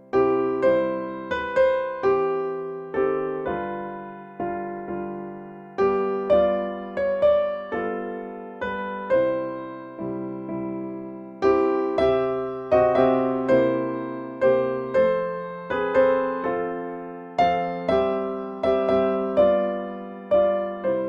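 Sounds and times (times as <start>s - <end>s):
piano playing slow hymn chords: 0.0s - 21.0s.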